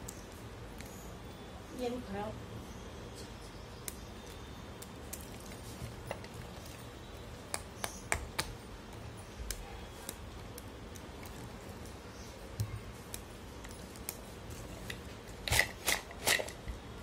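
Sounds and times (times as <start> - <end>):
dry clay cracking and crumbling: 3.1 - 17.0.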